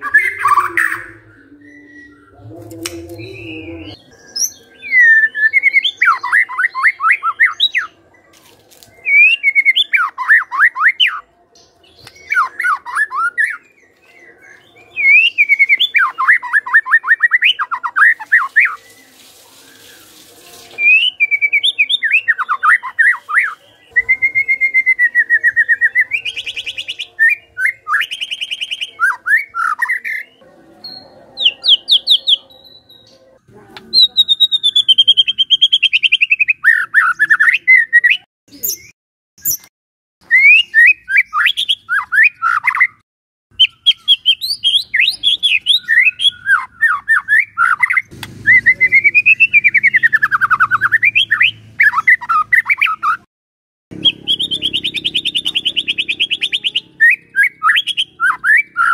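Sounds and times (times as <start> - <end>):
bird singing whistles and trills: 0.0 - 8.2, 9.0 - 20.0, 20.8 - 33.3, 34.0 - 39.6, 40.2 - 43.0, 43.6 - 53.2, 54.0 - 58.9.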